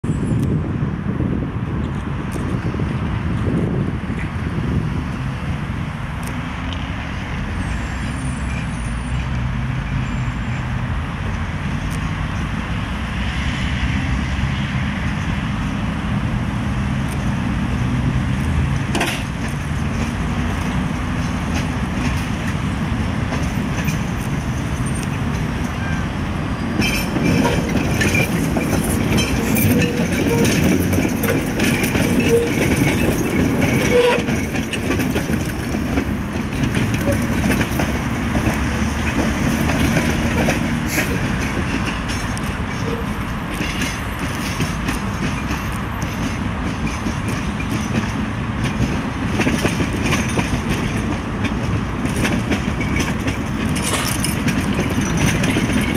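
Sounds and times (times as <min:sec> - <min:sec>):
tram humming: 0:00.0 - 0:55.9
tram wheels clattering over rails: 0:01.7 - 0:55.9.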